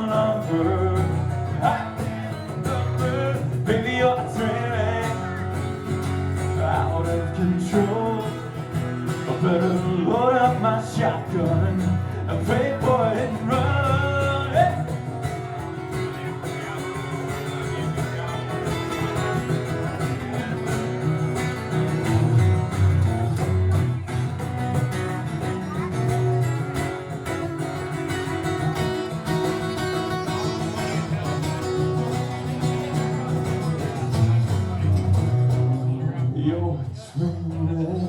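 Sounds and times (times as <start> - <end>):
guitar: 0.0 - 38.0
live country band playing: 0.0 - 38.0.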